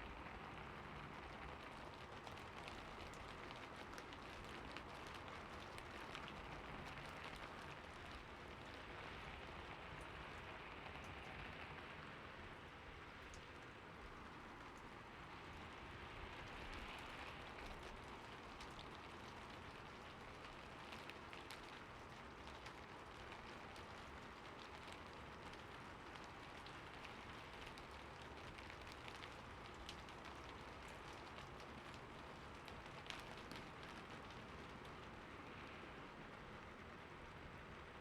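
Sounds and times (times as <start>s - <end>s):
raindrops ticking on a surface: 0.0s - 38.0s.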